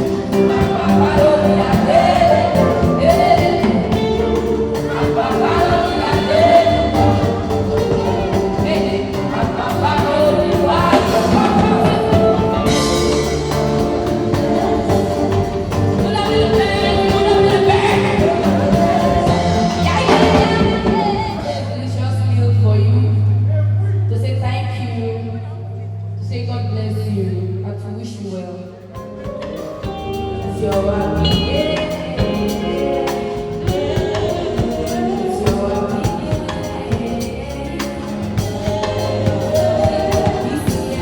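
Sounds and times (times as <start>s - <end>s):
music with singing voice: 0.0s - 25.2s, 28.7s - 41.0s.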